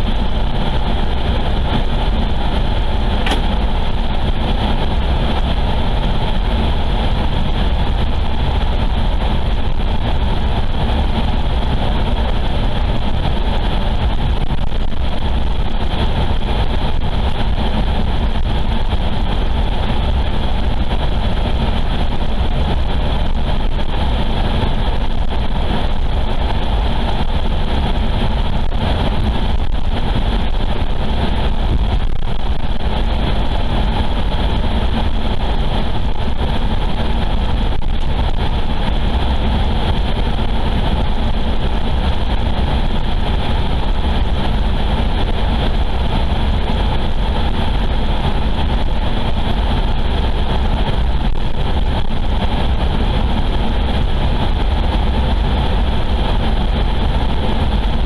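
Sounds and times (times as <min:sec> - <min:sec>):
car driving on highway: 0:00.0 - 0:58.0.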